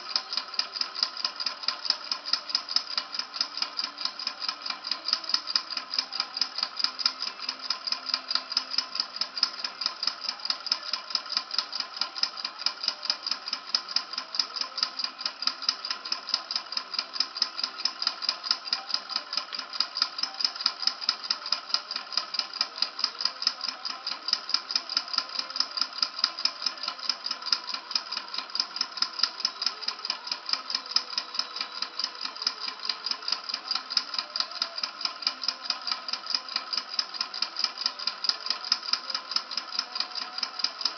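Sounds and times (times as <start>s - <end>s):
model engine rapid mechanical clicking: 0.0s - 40.9s.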